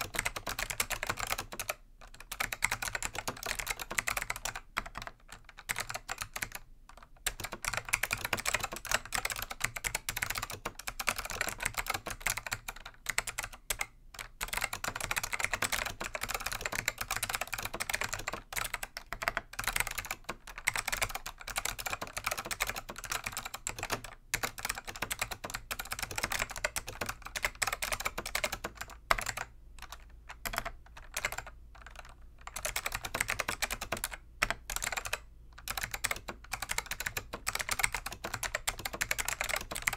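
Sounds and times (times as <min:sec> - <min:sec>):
fast keyboard typing clicks: 0:00.0 - 0:39.9.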